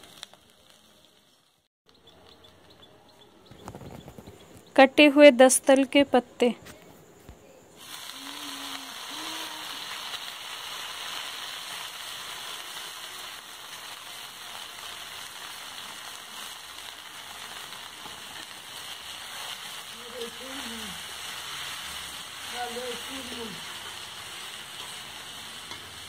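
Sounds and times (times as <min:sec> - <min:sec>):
leaves sizzling in hot oil: 0:00.0 - 0:02.8, 0:07.8 - 0:26.0.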